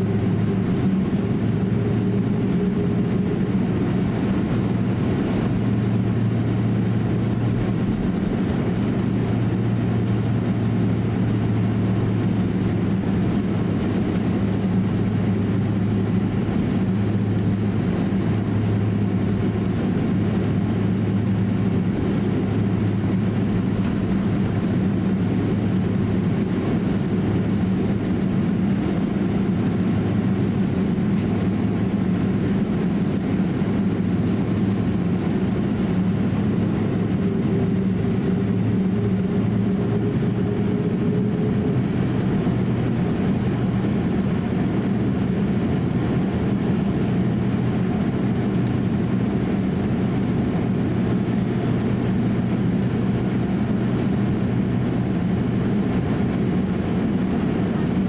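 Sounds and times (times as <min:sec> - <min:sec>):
airliner cabin hum: 0:00.0 - 0:58.0
faint whine: 0:00.0 - 0:58.0.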